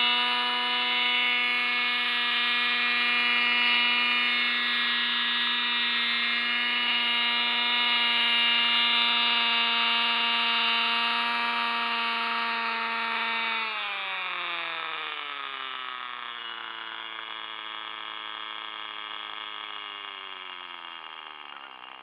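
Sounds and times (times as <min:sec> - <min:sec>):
model helicopter engine buzzing: 0:00.0 - 0:22.0.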